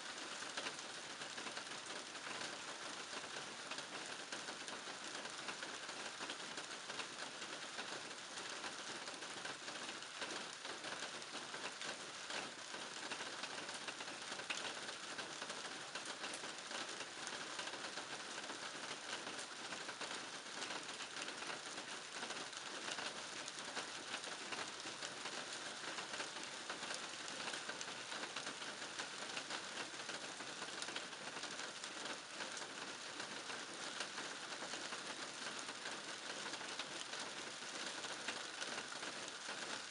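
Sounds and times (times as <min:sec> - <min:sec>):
rain falling on a garden: 0:00.0 - 0:39.9.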